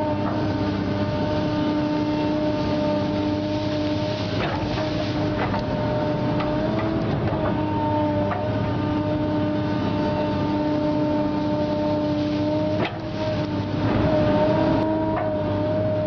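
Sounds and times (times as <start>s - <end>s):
excavator running under load: 0.0s - 16.0s.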